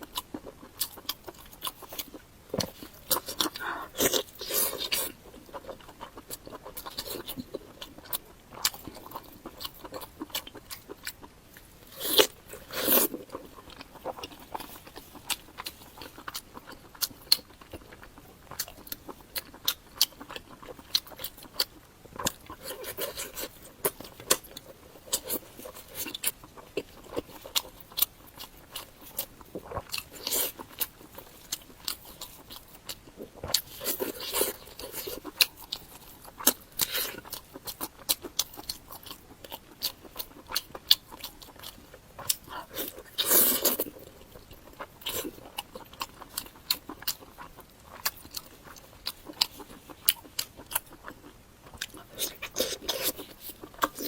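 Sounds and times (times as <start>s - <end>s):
crunchy chewing: 0.0s - 54.0s.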